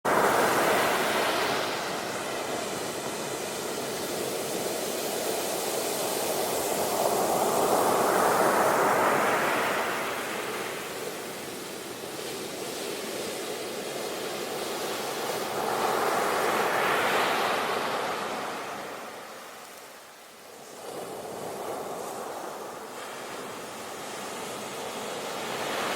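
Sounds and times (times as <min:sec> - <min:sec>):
waves breaking on shore: 0:00.1 - 0:25.9.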